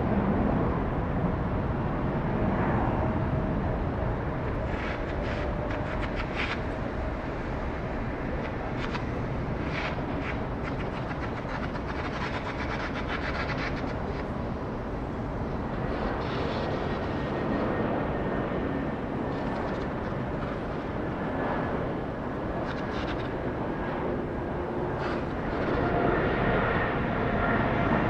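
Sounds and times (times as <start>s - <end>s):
jet engines rumbling: 0.2s - 28.0s.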